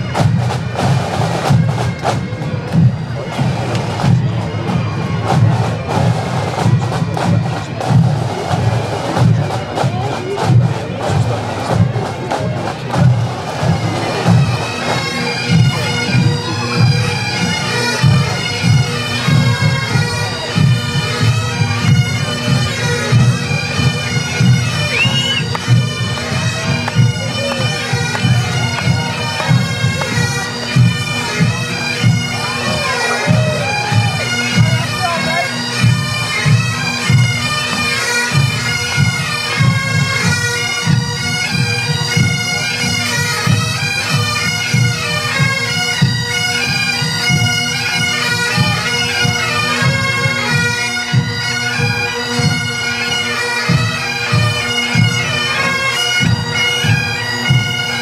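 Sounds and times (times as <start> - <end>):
bagpipes playing a march: 0.0 - 58.0
pipe band drums: 0.0 - 58.0.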